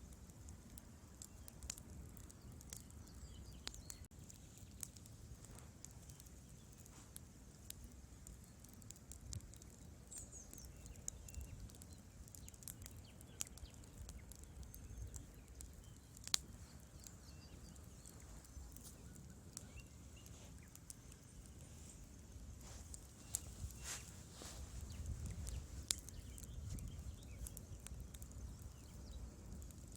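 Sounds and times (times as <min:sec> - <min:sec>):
fire popping and snapping: 0:00.0 - 0:29.9
low fire rumble: 0:00.0 - 0:29.9.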